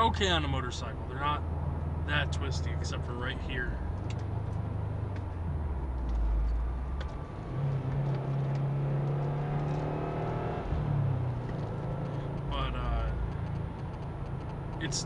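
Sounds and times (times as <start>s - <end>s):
road noise inside car: 0.0s - 15.0s
car engine accelerating: 1.0s - 15.0s.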